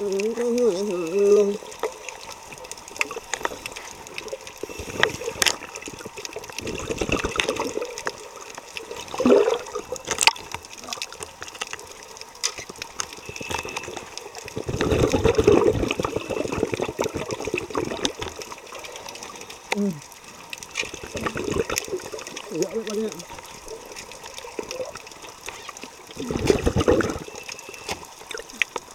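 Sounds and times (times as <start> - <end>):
underwater bubbles gurgling: 0.0 - 28.9.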